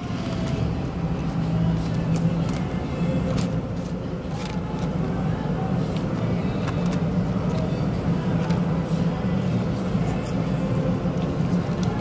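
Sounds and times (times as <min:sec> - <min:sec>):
restaurant background hum: 0:00.0 - 0:12.0.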